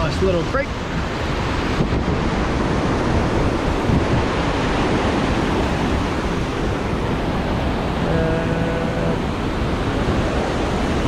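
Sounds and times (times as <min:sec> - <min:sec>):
floodwater rushing down a creek: 0:00.0 - 0:11.0.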